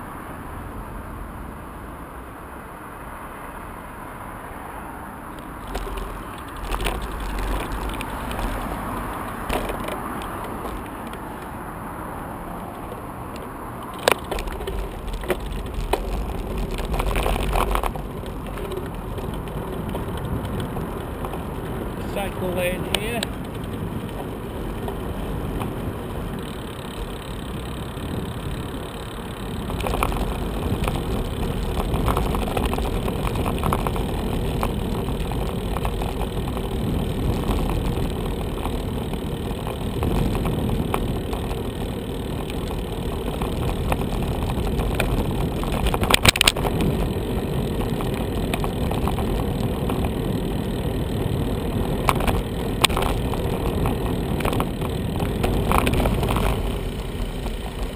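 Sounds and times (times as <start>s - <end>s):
passing car traffic: 0.0s - 57.9s
bicycle tyres on tarmac: 4.3s - 57.9s
small clicks: 5.4s - 11.5s, 12.6s - 57.9s.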